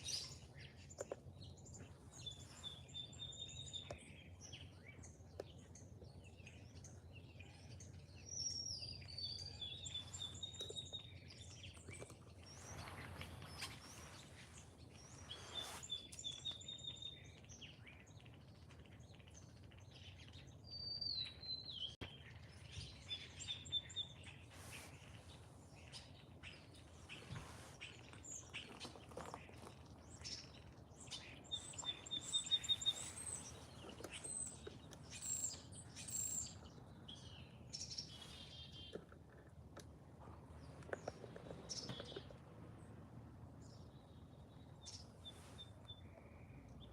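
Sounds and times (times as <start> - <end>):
songbirds chirping and singing: 0.0 - 46.9.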